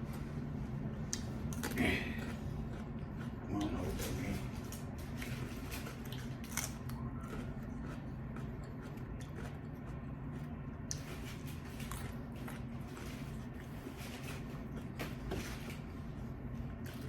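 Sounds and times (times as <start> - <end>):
chewing food: 0.0 - 17.0.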